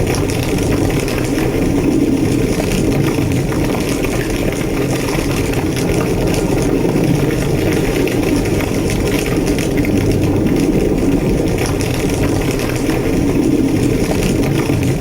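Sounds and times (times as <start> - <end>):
fire roaring and crackling: 0.0 - 15.0.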